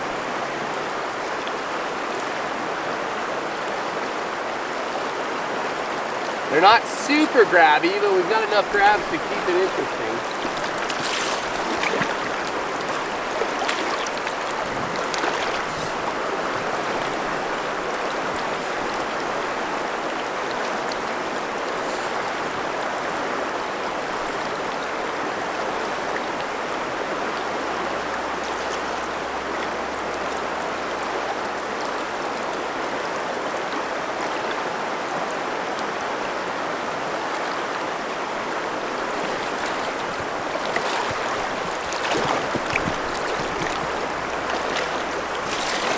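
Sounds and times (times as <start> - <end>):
river water flowing: 0.0 - 45.9.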